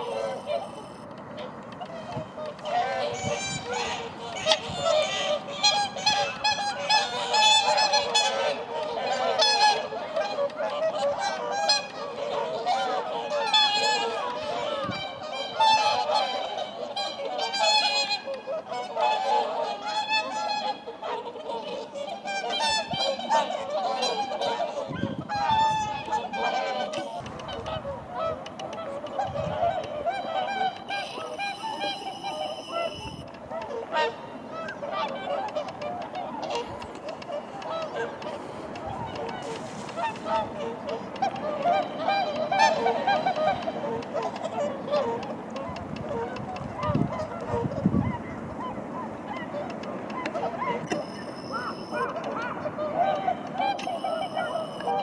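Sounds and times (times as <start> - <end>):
swans honking: 0.0 - 55.0.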